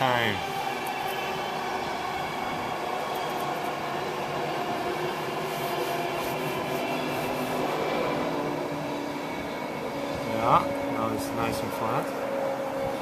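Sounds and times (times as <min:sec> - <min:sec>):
faint steady tones: 0:00.0 - 0:13.0
train passing: 0:00.0 - 0:13.0.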